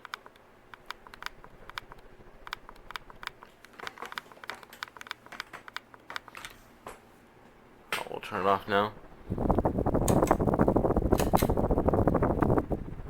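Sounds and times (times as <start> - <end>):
fan ticking and clicking: 0.0 - 7.0, 7.9 - 13.0
ceiling fan motor hum: 0.0 - 13.0.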